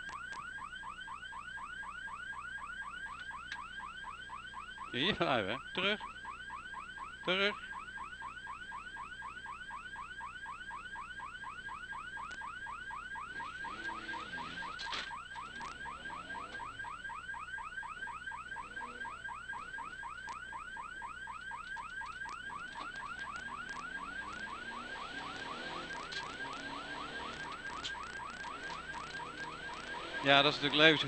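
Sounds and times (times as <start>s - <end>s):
electronic siren yelping: 0.0s - 31.0s.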